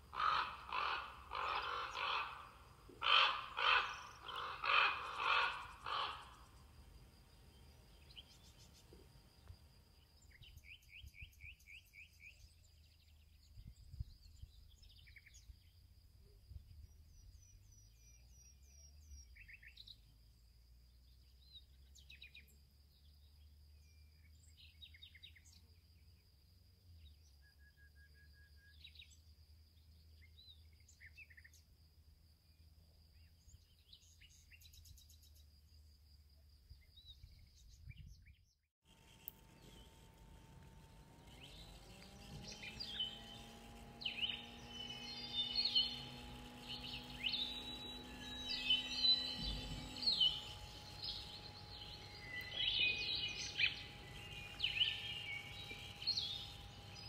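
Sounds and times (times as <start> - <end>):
songbird chirps and trills: 0.0 - 26.2, 32.4 - 57.0.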